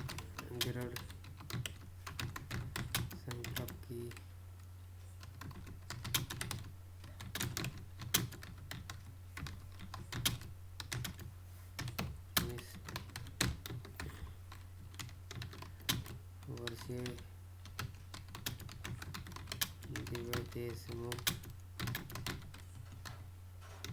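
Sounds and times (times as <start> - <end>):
computer keyboard typing: 0.0 - 4.2, 5.2 - 23.2.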